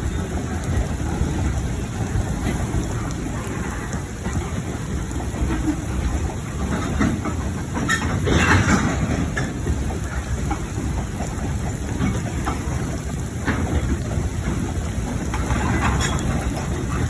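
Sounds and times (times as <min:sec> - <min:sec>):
train rumbling past: 0:00.0 - 0:17.0
train wheels clattering: 0:00.0 - 0:17.0.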